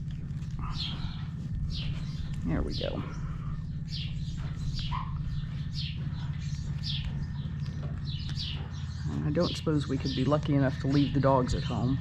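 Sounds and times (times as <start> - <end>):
steady low hum: 0.0 - 12.0
bird chirping: 0.5 - 12.0.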